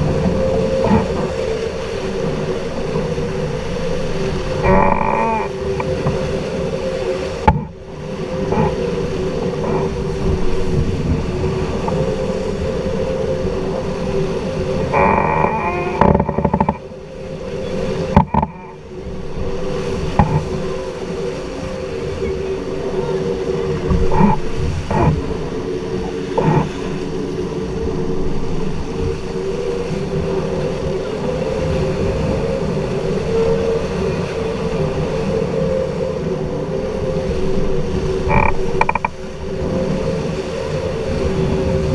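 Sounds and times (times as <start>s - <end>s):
steady droning hum: 0.0s - 41.9s
wind rushing over microphone: 0.0s - 41.9s.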